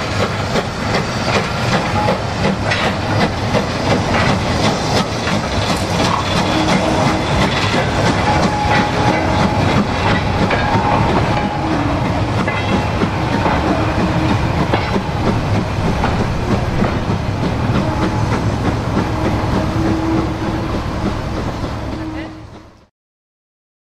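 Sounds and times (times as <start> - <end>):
train wheels clattering over rails: 0.0 - 22.8.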